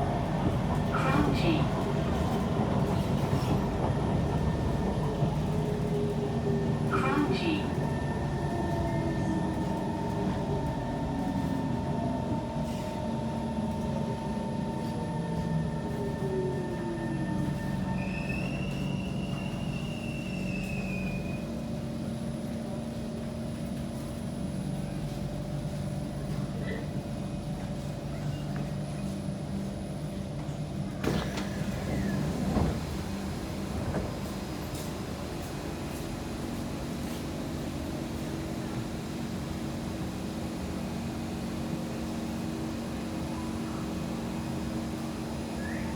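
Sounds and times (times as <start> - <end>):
metro train rumble and hum: 0.0 - 45.9.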